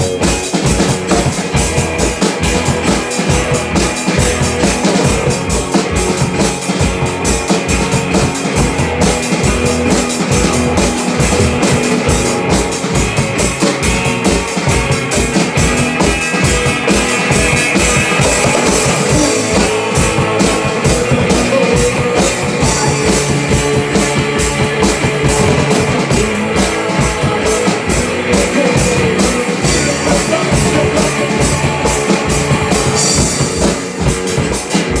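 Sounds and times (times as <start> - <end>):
drum kit beat: 0.0 - 35.0
rock band playing: 0.0 - 35.0.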